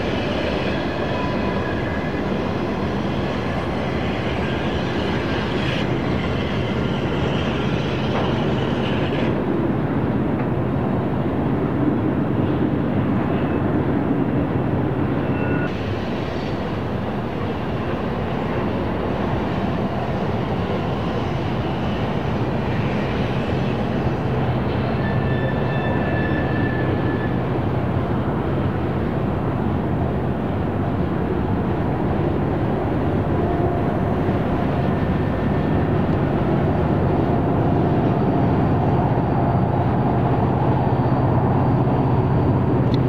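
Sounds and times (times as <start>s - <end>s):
diesel locomotive engines: 0.0s - 43.0s
train rumble: 0.0s - 43.0s.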